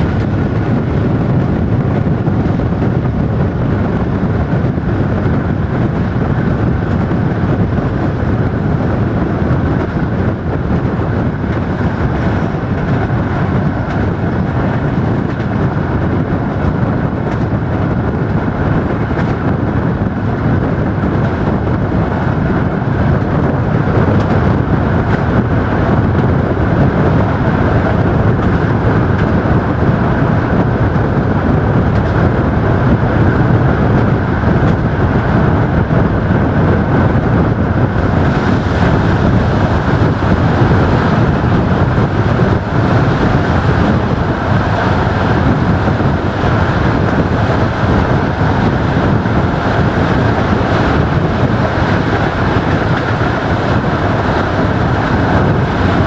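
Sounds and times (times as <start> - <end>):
rushing air: 0.0 - 56.0
train wheels rumbling on rails: 0.0 - 56.0.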